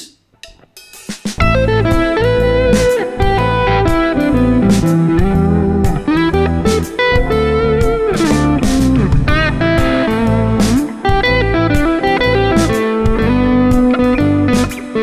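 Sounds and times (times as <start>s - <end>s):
backing track with drums and bass: 0.0s - 15.0s
electric guitar solo: 1.4s - 15.0s.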